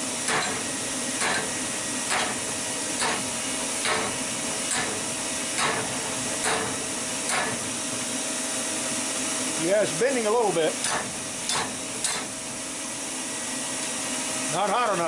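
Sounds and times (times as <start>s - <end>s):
forge fire hissing: 0.0s - 14.7s.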